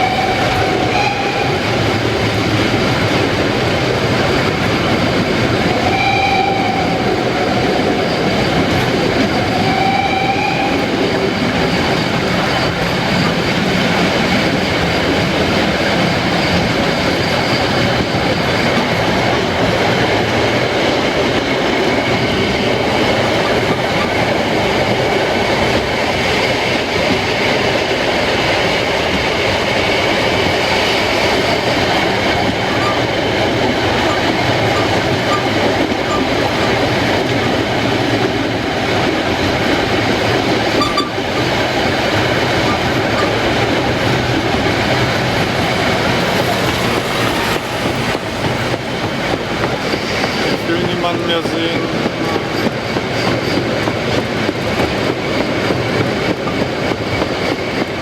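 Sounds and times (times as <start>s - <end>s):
train wheels rattling on rails: 0.0s - 58.0s.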